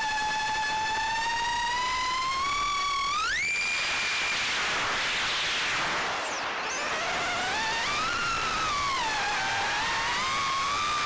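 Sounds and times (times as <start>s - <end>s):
drone motor whine: 0.0s - 11.0s.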